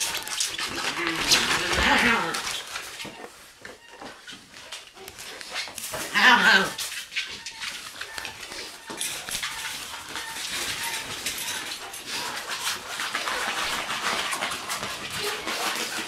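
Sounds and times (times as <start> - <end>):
puppy claws scrabbling: 0.0 - 3.4, 4.1 - 16.0.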